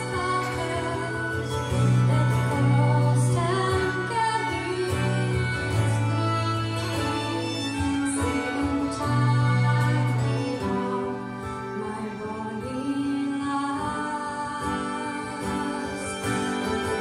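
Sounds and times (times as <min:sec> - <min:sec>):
instrumental accompaniment: 0:00.0 - 0:17.0
woman singing folk song: 0:00.0 - 0:17.0.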